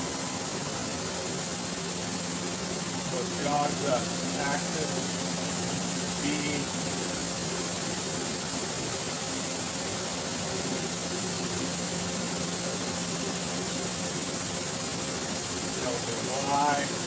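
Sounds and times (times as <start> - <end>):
constant hiss: 0.0 - 17.0
machinery hum: 0.0 - 17.0.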